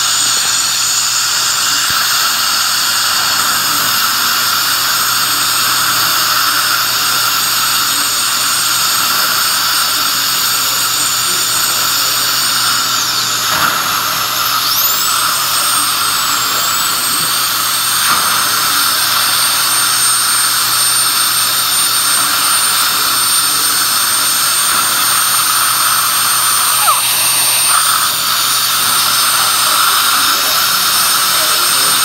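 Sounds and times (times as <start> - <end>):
dental drill whining: 0.0 - 32.0
hiss of air and suction: 0.0 - 32.0.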